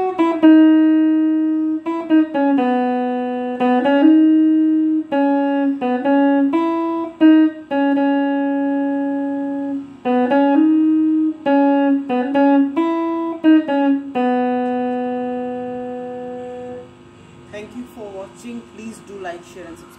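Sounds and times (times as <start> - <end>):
guitar melody: 0.0 - 19.9.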